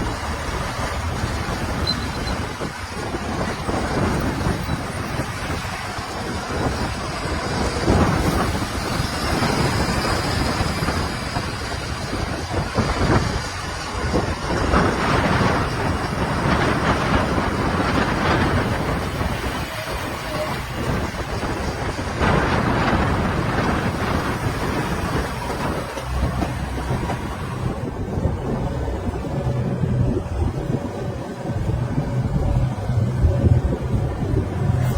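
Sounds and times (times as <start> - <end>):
heavy diesel machinery rumbling: 0.0 - 34.9.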